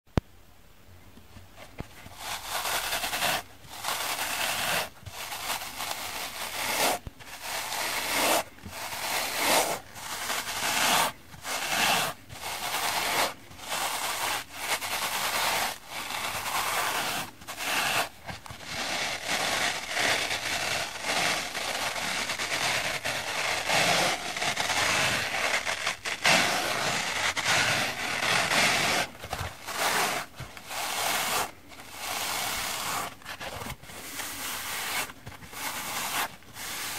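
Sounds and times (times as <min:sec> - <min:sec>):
sponges rubbing together: 0:02.0 - 0:36.9.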